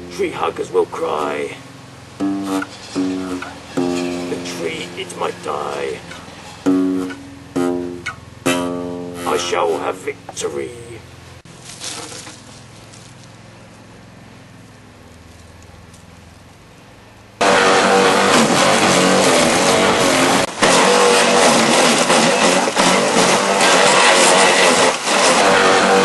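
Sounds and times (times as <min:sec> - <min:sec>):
garden shredder chewing branches: 0:00.0 - 0:16.8, 0:17.4 - 0:26.0.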